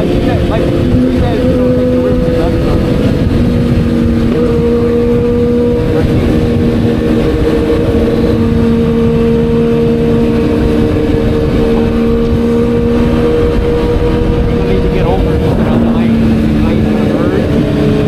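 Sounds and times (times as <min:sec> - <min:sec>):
motorcycle engine cruising: 0:00.0 - 0:18.0
wind and road noise: 0:00.0 - 0:18.0.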